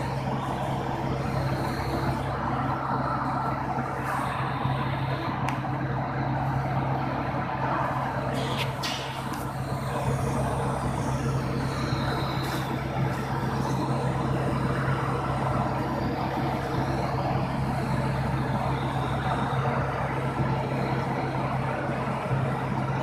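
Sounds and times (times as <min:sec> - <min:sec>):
machinery droning: 0:00.0 - 0:23.0.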